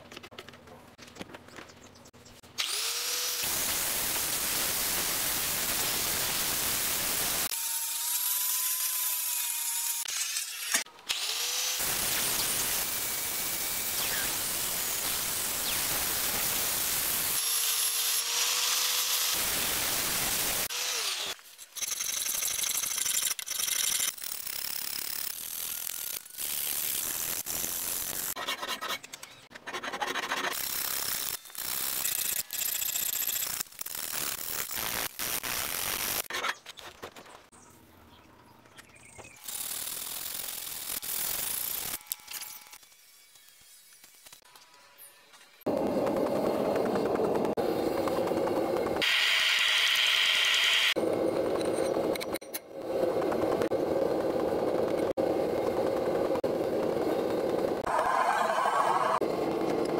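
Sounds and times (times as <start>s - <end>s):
angle grinder grinding metal: 5.8s - 36.6s, 39.4s - 59.9s.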